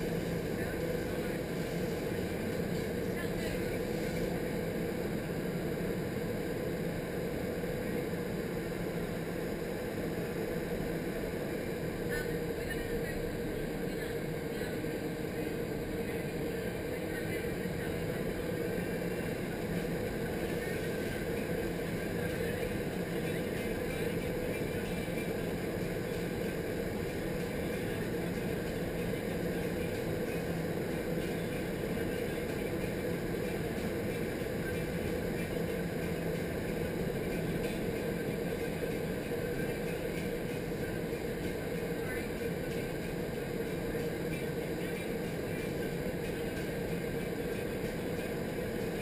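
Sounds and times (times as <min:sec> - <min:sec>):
constant low hum: 0:00.0 - 0:49.0.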